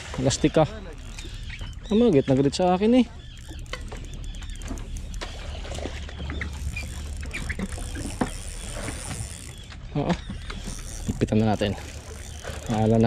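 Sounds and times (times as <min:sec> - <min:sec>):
boat engine rumbling: 0:00.0 - 0:13.0
fishing reel clicking: 0:00.3 - 0:13.0.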